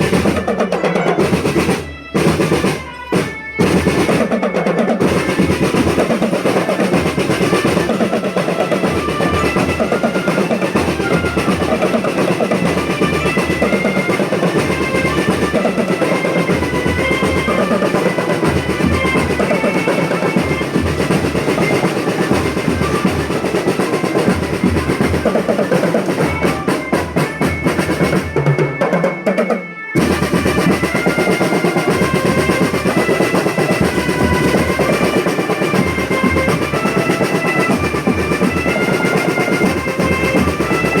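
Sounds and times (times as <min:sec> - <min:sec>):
snare drum rolls: 0:00.0 - 0:41.0.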